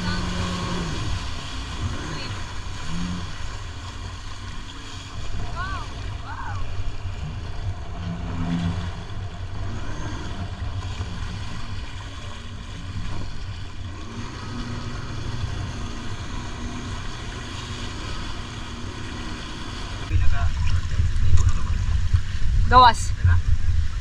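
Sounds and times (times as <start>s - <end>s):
jet ski engine running: 0.0s - 24.0s.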